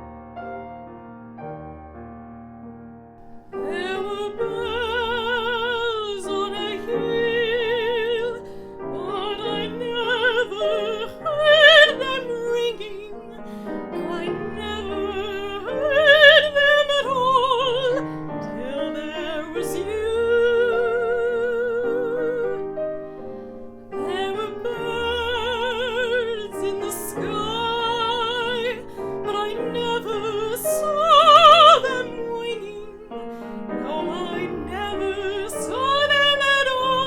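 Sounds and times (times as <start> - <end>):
piano accompaniment: 0.0 - 37.0
woman singing classical: 3.2 - 37.0.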